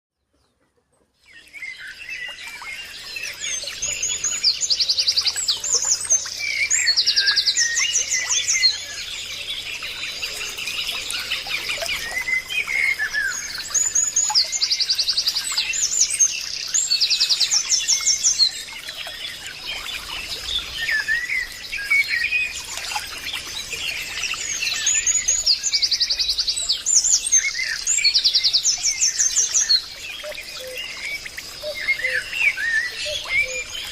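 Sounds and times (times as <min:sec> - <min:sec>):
birds chirping and calling: 0:00.4 - 0:33.9.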